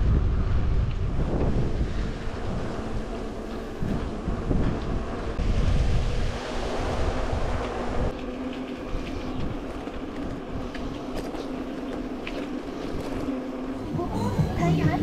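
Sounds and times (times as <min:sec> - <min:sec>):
bicycle rolling on concrete: 0:00.0 - 0:15.0
steady low hum: 0:00.0 - 0:15.0
wind buffeting microphone: 0:00.0 - 0:15.0.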